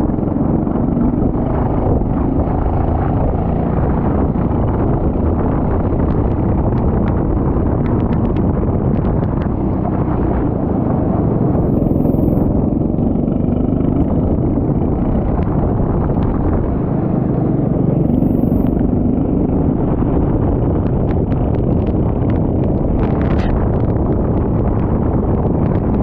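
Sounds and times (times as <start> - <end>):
heavy rushing noise: 0.0 - 26.0
kart engine running: 0.0 - 26.0.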